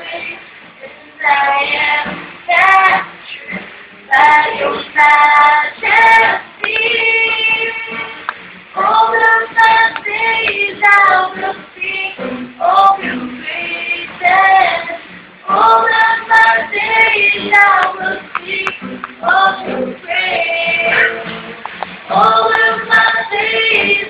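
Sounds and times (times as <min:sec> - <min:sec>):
woman singing: 0:00.0 - 0:08.2, 0:08.8 - 0:21.5, 0:22.1 - 0:24.0
acoustic guitar: 0:00.0 - 0:24.0.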